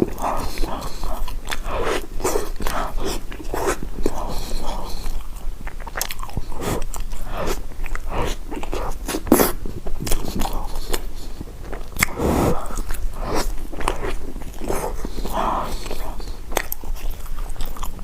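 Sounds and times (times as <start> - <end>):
mouth clicks and smacks: 0.0 - 18.0
person chewing food: 0.0 - 18.0.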